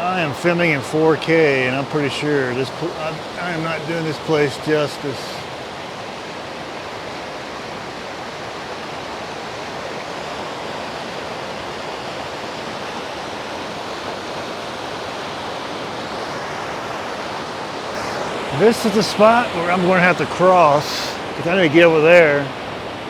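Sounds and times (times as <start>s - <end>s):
mountain creek rushing: 0.0s - 23.0s.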